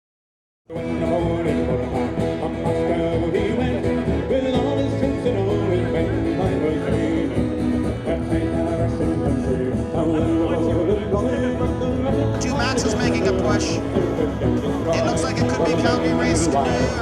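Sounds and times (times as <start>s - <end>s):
country music with banjo and guitar: 0.7s - 17.0s.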